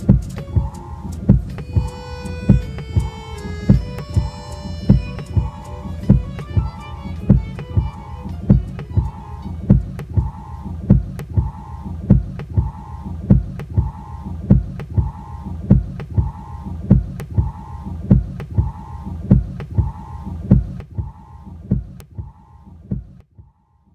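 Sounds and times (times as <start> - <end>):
low heartbeat-like thumps: 0.0 - 23.5.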